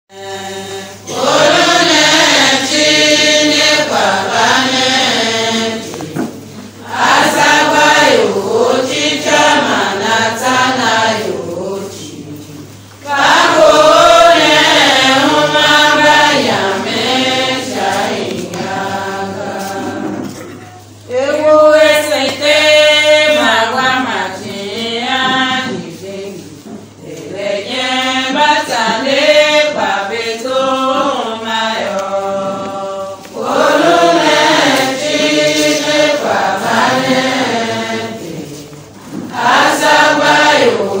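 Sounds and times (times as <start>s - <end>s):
congregation singing a hymn: 0.1s - 41.0s.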